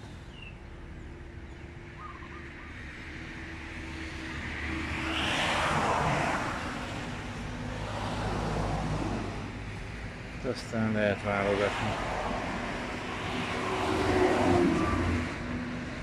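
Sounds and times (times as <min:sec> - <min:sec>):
road vehicle passing by: 0:00.0 - 0:16.0.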